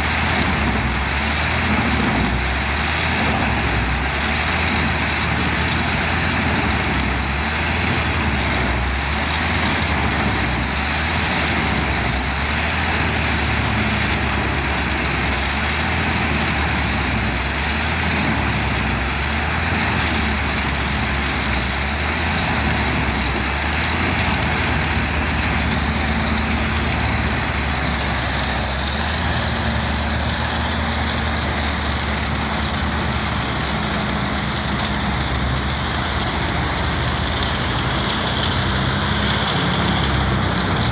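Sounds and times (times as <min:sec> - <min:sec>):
wood chipper engine drone: 0:00.0 - 0:40.9
wood chips rushing hiss: 0:00.0 - 0:40.9.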